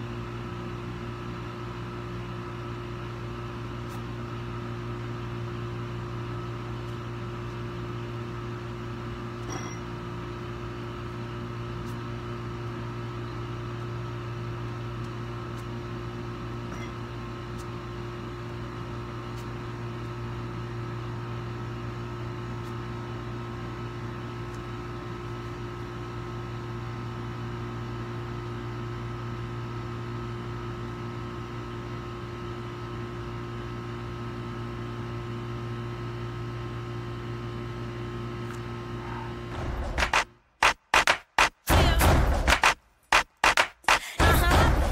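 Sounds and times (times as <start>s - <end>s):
steady machine hum: 0.0s - 41.1s, 41.7s - 44.9s.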